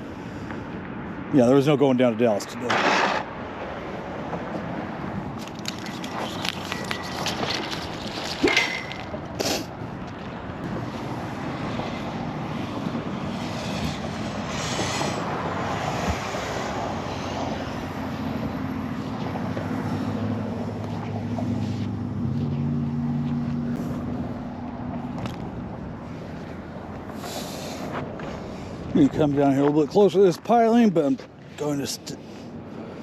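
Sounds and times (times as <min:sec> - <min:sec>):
vehicle engine drone: 0:00.0 - 0:30.0
traffic tyre rush: 0:00.0 - 0:33.0.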